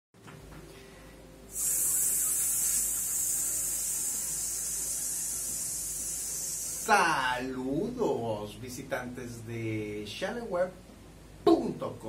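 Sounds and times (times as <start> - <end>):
steady high-pitched hiss: 0.2 - 12.0.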